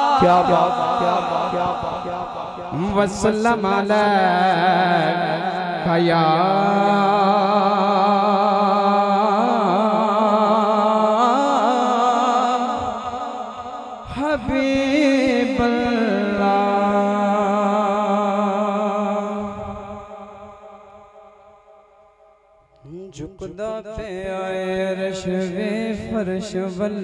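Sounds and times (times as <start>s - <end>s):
man singing into a microphone: 0.0s - 20.8s, 22.8s - 27.0s.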